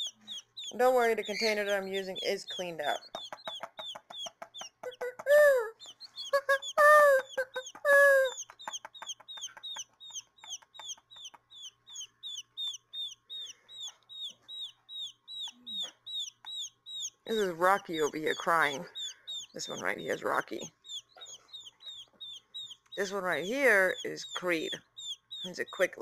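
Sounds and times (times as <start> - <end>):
drawn-out chick cries: 0.0 - 25.9
quail chicks peeping: 0.0 - 26.0.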